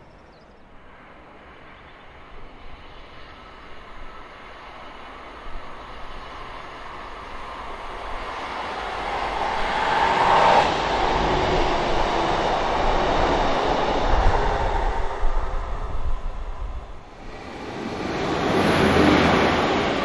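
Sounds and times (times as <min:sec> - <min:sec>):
diesel train engine rumble: 0:02.4 - 0:20.0
train wheels on rails: 0:02.4 - 0:20.0.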